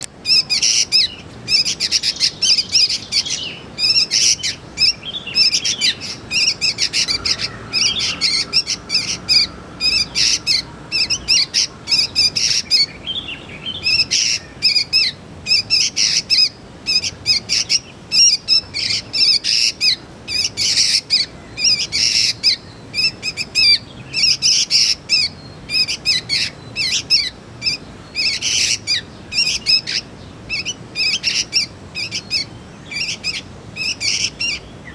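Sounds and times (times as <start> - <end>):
young bird chirping: 0.0 - 34.9.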